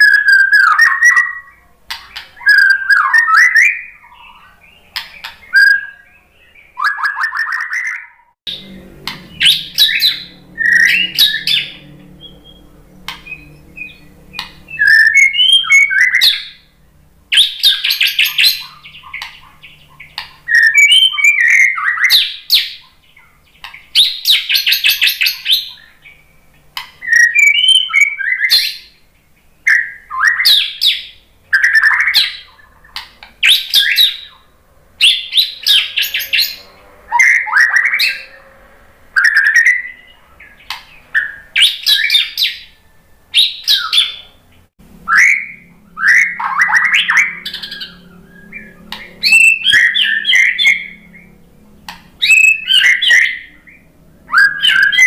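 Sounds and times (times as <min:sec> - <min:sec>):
bird singing whistles and rattles: 0:00.0 - 0:06.1, 0:06.7 - 0:16.6, 0:17.3 - 0:29.0, 0:29.6 - 0:38.5, 0:39.2 - 0:44.3, 0:45.1 - 0:53.6, 0:54.3 - 0:55.0.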